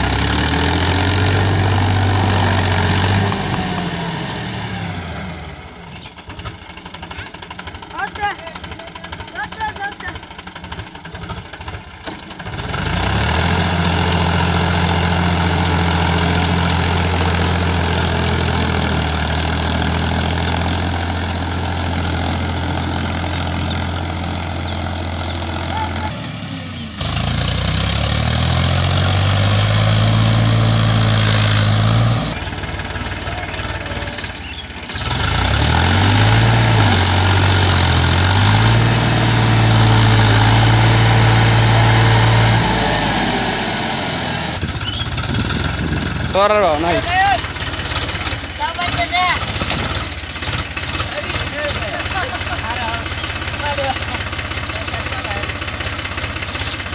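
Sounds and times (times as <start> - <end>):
tractor diesel engine labouring: 0.0 - 56.9.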